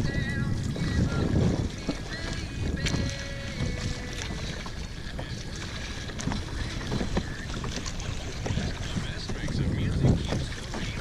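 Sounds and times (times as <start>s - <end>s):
water splashing: 0.0s - 11.0s
wind buffeting microphone: 0.0s - 11.0s.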